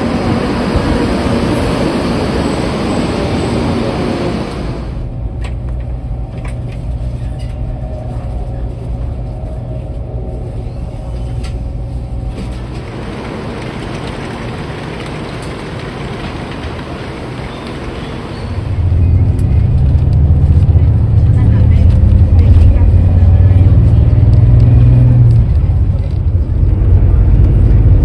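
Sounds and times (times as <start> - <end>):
vehicle rumble from inside: 2.9 - 28.0.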